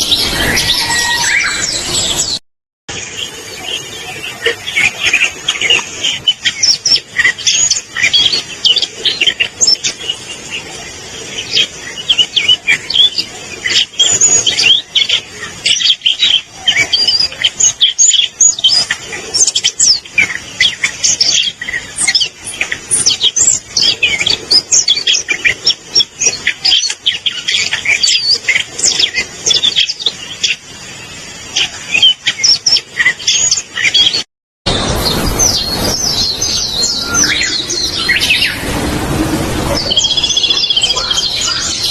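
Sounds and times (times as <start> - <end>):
bird warbling song: 0.0 - 41.9.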